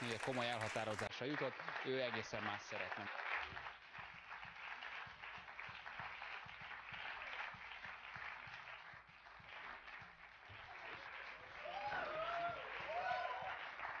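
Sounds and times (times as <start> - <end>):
studio audience applauding: 0.0 - 14.0.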